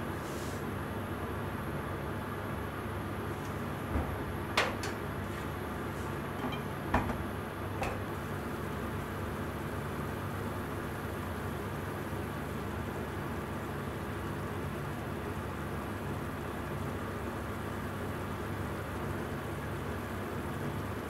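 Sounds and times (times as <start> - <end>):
pot simmering with bubbling hiss: 3.1 - 21.0.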